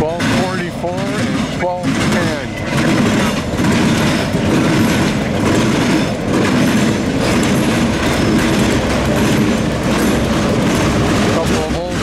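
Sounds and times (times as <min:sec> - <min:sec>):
diesel locomotive engines running: 0:00.0 - 0:12.0
train wheels clacking on rails: 0:00.0 - 0:12.0.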